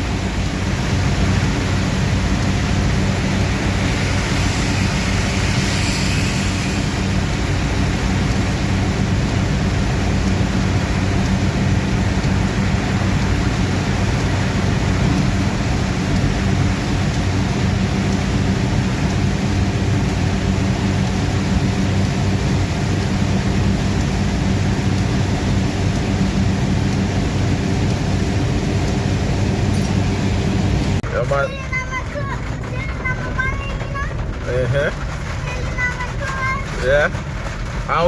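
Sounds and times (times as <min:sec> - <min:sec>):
car low hum: 0:00.0 - 0:38.0
heavy rain on a car: 0:00.0 - 0:38.0
wet road noise: 0:00.0 - 0:38.0.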